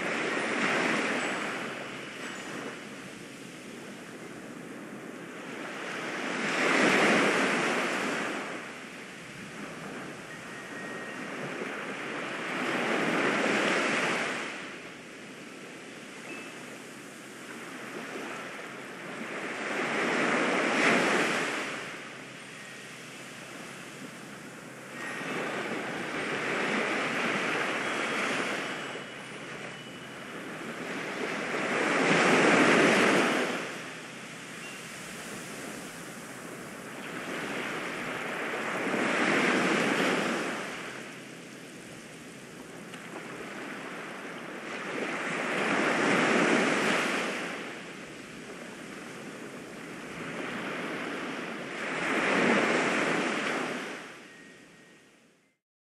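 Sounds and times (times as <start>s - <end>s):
ocean waves breaking: 0.0s - 54.4s.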